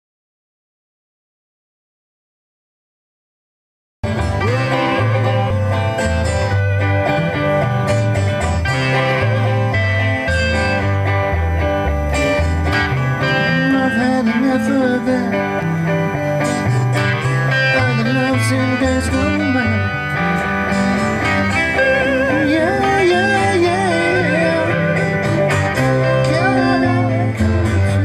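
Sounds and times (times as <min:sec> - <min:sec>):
bass line: 0:04.0 - 0:28.0
electric guitars: 0:04.0 - 0:28.0.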